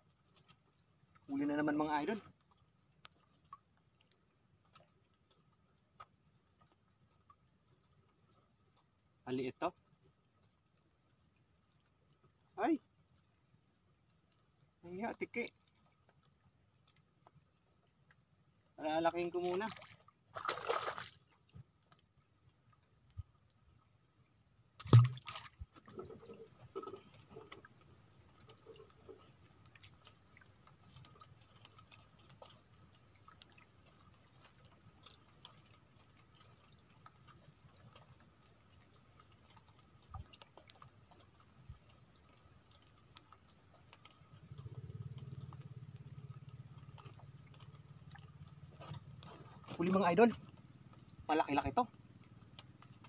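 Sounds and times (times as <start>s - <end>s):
faint ticks: 2.2s - 18.8s, 21.4s - 23.6s, 26.0s - 53.0s.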